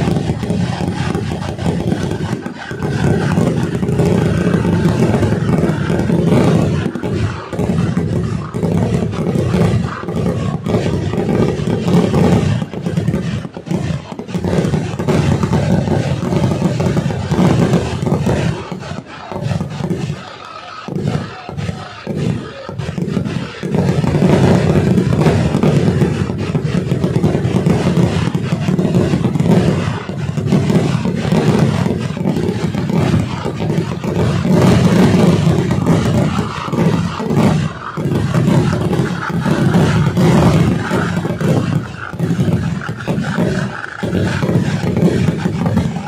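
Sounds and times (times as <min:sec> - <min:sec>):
fireworks exploding: 0:00.0 - 0:46.0.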